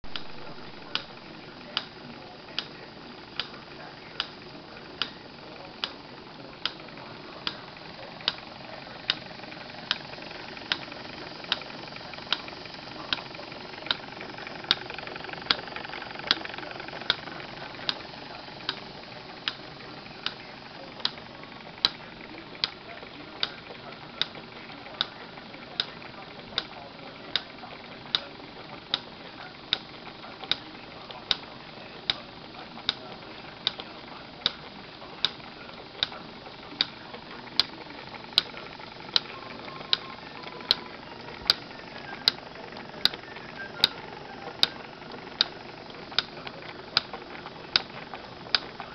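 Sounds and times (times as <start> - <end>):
toy steam engine whirring hiss: 0.4 - 48.9.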